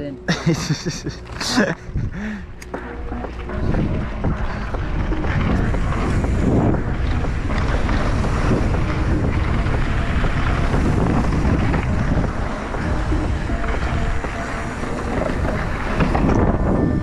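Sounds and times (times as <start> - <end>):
low rumble: 0.0 - 17.0
wind buffeting microphone: 0.3 - 17.0.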